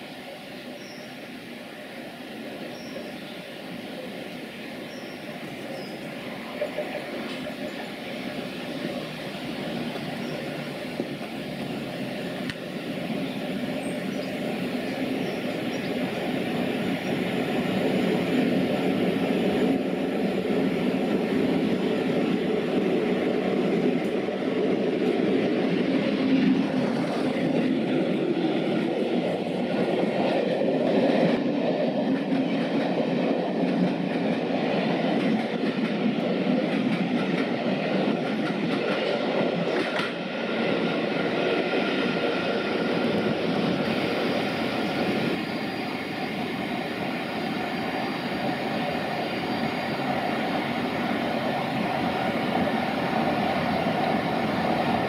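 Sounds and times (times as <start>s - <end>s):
diesel passenger train passing: 0.0s - 55.0s.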